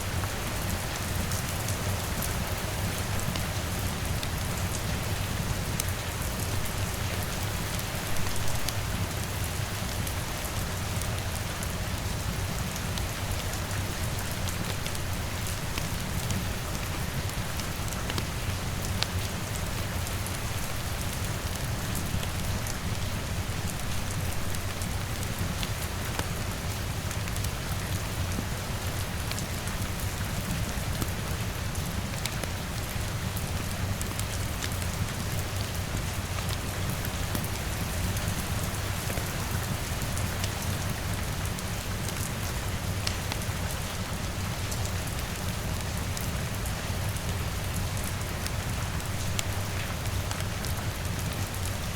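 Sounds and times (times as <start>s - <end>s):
rain on a window: 0.0s - 51.9s.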